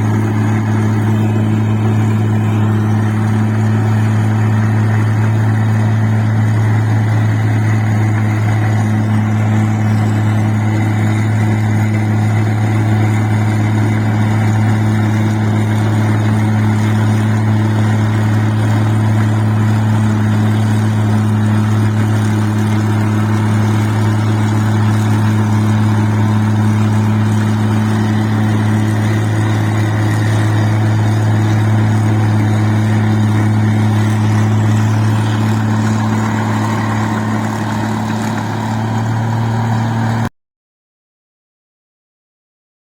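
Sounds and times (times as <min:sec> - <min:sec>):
rice machine humming: 0:00.0 - 0:40.3.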